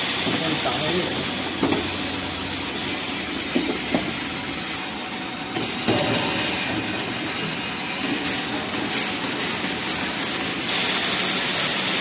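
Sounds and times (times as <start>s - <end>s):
workshop noise: 0.0s - 12.0s.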